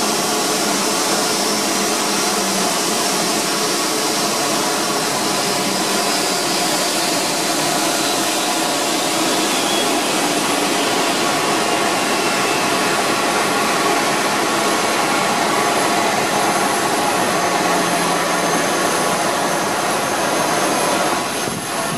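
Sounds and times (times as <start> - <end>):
jet turbine roaring: 0.0 - 21.9.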